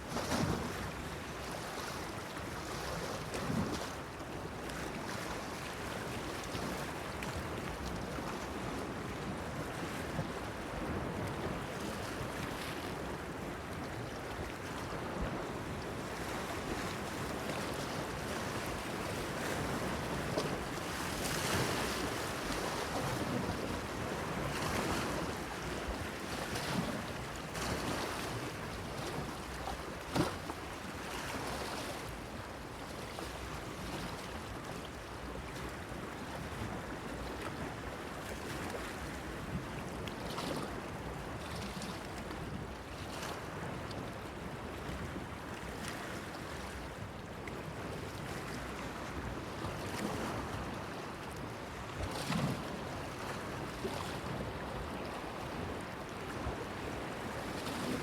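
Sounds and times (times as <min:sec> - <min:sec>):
wind: 0:00.0 - 0:58.0.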